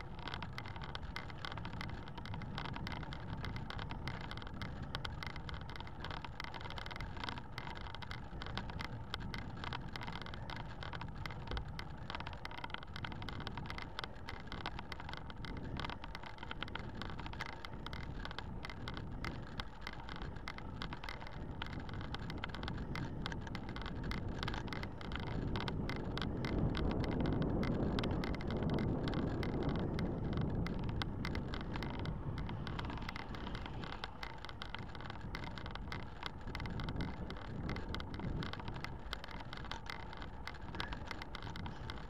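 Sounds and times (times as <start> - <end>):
bike rattles: 0.0 - 42.0
wind and tyre noise: 0.0 - 42.0.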